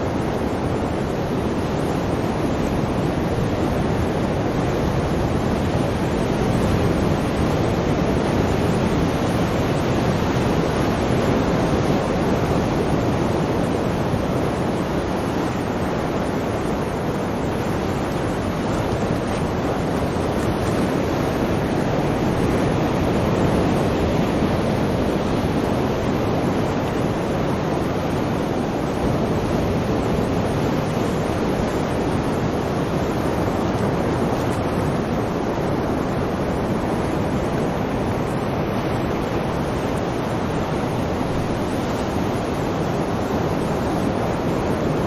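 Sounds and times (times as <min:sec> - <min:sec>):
sea surf rushing: 0:00.0 - 0:45.0.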